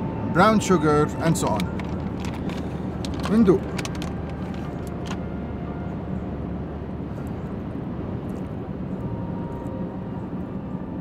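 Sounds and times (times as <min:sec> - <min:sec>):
car rumble inside cabin: 0:00.0 - 0:11.0.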